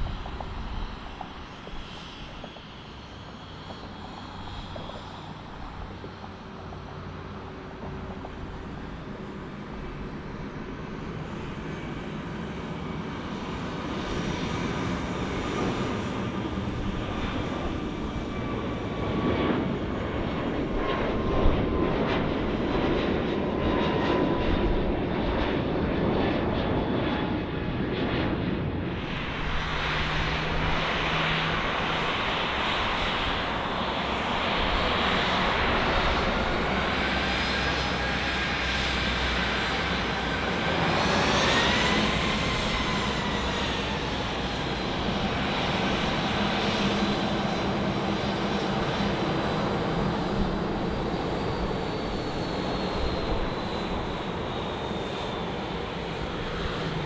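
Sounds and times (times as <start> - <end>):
jet engines rumbling and whining: 0.0 - 57.0.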